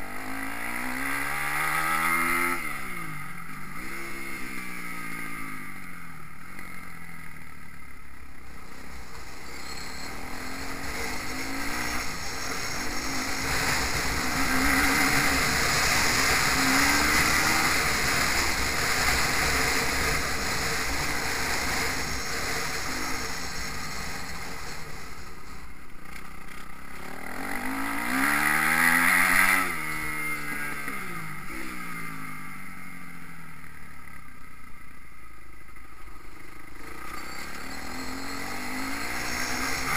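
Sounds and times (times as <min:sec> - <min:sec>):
motocross bike engines revving: 0:00.0 - 0:06.4, 0:08.3 - 0:32.8, 0:36.4 - 0:39.9.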